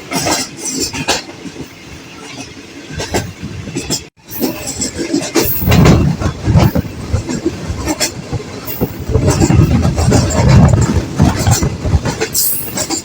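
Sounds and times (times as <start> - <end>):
train wheels clattering over rails: 0.0 - 13.0
wind gusts on microphone: 0.0 - 13.0.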